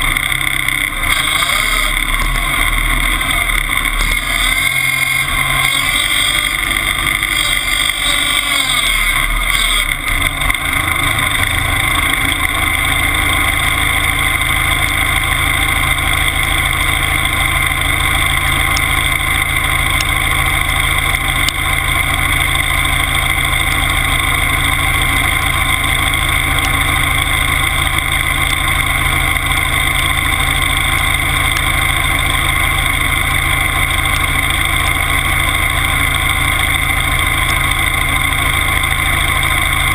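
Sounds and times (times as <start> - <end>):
skidder engine running: 0.0 - 39.9.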